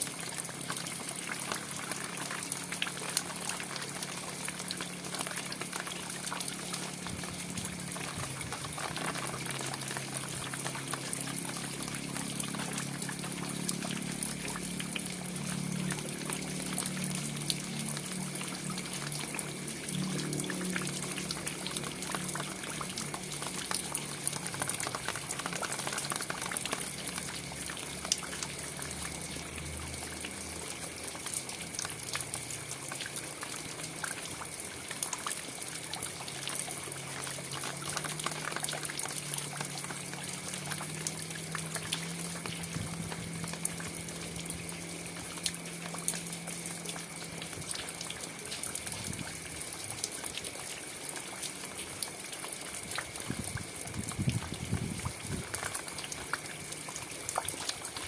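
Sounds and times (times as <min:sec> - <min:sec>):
steady rain with drop ticks: 0:00.0 - 0:58.0.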